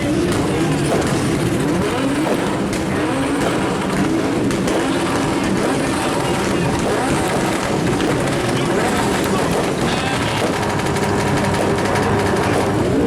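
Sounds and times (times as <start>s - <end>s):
car engine revving: 0.0s - 13.0s
exhaust pops and bangs: 0.0s - 13.0s.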